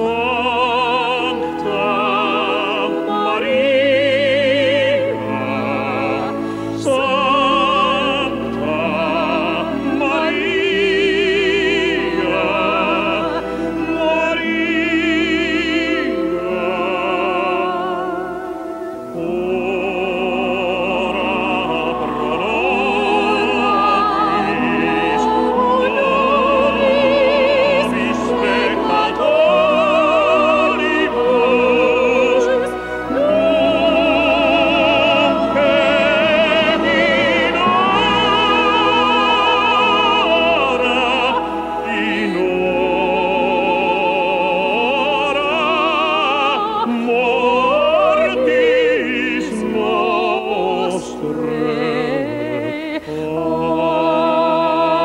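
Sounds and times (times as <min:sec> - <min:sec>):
operatic singing: 0:00.0 - 0:55.0
orchestra playing: 0:00.0 - 0:55.0.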